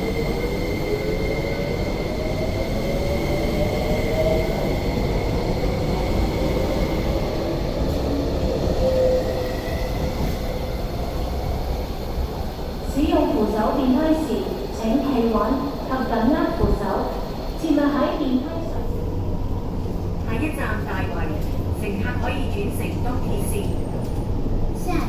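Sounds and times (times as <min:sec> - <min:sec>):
wheels rumbling on rail: 0:00.0 - 0:25.0.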